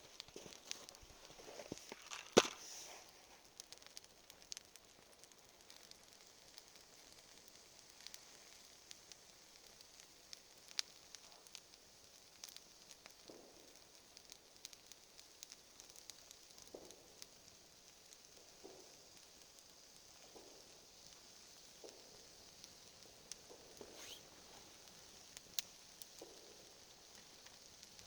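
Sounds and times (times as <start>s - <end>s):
campfire crackling: 0.0s - 28.0s
fire hissing: 0.0s - 28.0s
fire popping: 0.0s - 28.0s.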